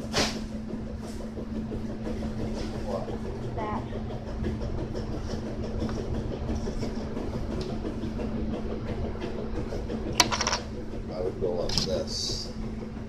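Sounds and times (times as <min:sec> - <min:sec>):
constant hum: 0:00.0 - 0:13.0
low mechanical rumble: 0:00.0 - 0:13.0.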